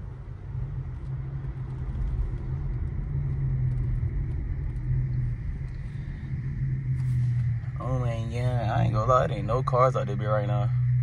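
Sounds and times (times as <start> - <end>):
car engine hum inside cabin: 0.0 - 11.0
tyre road rumble: 0.0 - 11.0.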